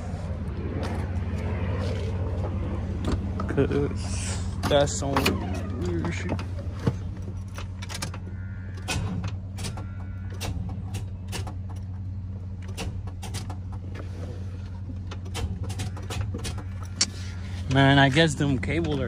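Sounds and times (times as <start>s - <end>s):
low hum: 0.0s - 15.3s.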